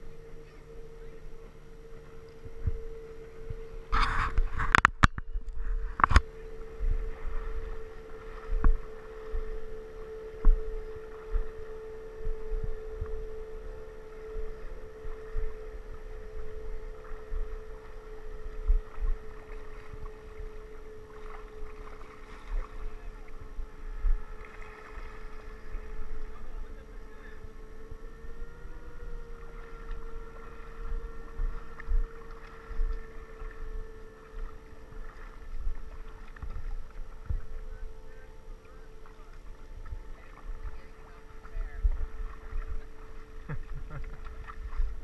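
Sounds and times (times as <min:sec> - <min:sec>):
motor hum: 0:00.0 - 0:45.0.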